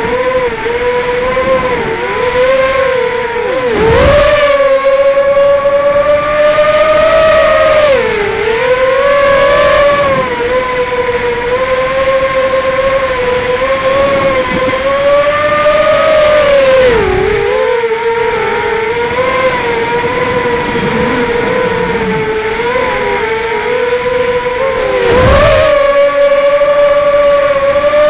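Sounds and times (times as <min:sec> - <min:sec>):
quadcopter motors buzzing whine: 0:00.0 - 0:28.0.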